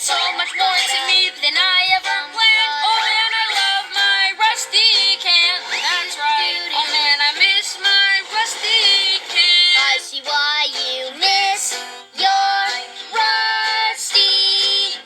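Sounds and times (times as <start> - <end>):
high voice singing: 0.0 - 15.0
light instrumental backing: 0.0 - 15.0.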